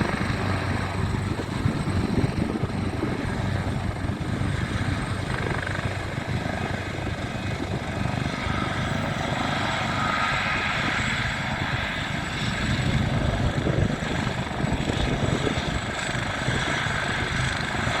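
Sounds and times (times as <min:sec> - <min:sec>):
helicopter rotor and turbine din: 0:00.0 - 0:18.0
rushing wind: 0:00.0 - 0:18.0.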